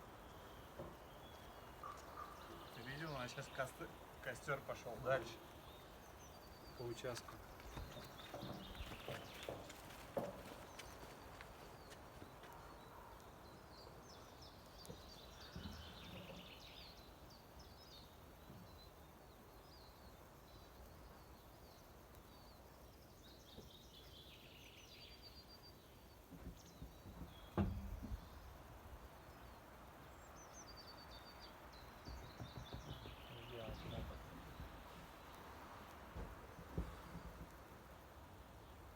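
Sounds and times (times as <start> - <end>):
faint outdoor background noise: 0.0 - 38.9
small birds chirping: 0.0 - 38.9.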